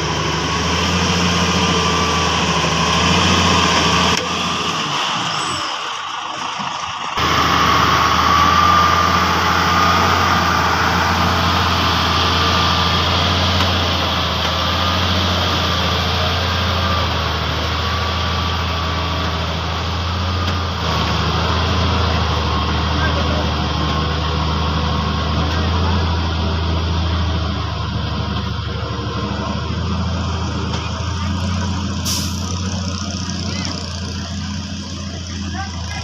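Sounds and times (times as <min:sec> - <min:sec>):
truck engine humming: 0:00.0 - 0:36.0.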